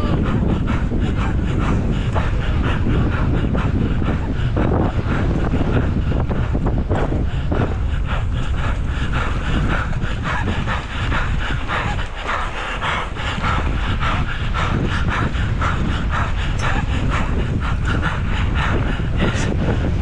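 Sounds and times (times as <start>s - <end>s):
rasping hard panting: 0.0s - 20.0s
wind rumbling on microphone: 0.0s - 20.0s.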